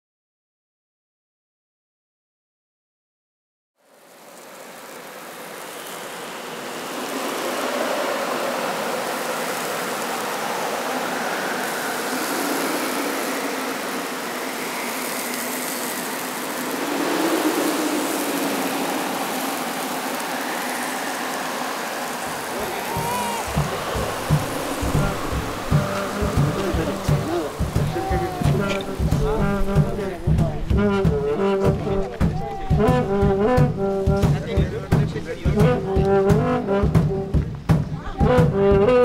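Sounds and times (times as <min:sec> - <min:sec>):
steady rushing noise: 0:03.8 - 0:38.0.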